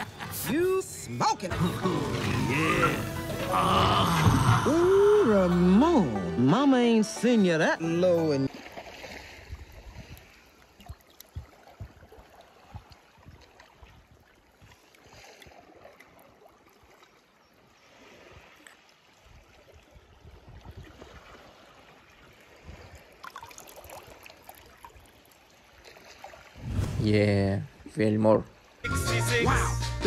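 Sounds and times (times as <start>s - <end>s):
water sloshing and trickling: 0.0s - 27.0s.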